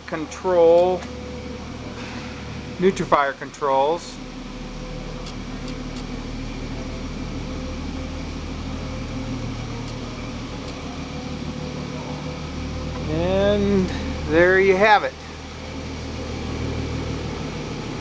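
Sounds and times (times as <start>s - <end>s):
grinder motor hum: 0.0s - 18.0s.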